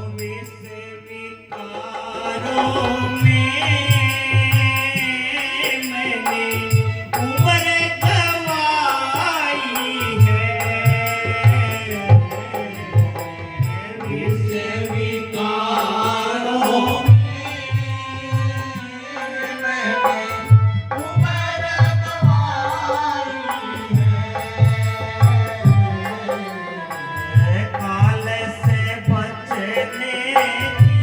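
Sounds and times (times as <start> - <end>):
man singing devotional song: 0.0 - 31.0.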